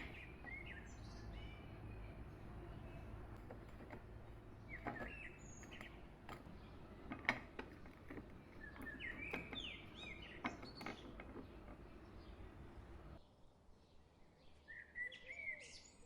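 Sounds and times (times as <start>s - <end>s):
small birds chirping: 0.0s - 13.2s.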